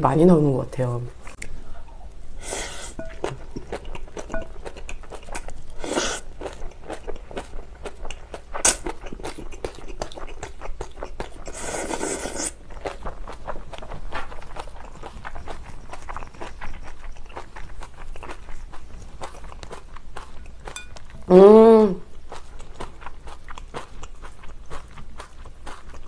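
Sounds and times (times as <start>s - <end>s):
wet chewing: 1.2s - 21.4s, 22.0s - 26.0s
crunchy bites of kimchi: 3.2s - 21.2s, 22.0s - 26.0s.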